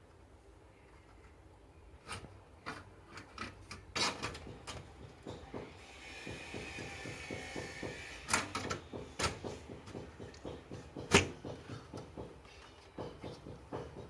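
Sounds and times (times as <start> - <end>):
small knocks: 2.6 - 14.0.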